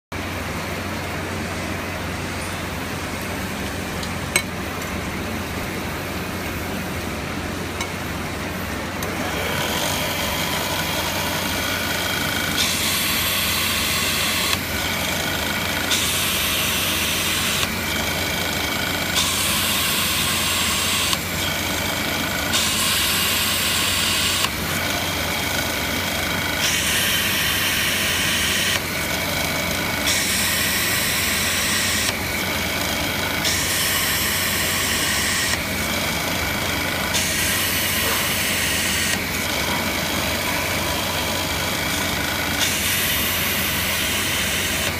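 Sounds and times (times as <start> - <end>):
drill press motor hum: 0.2 - 44.9.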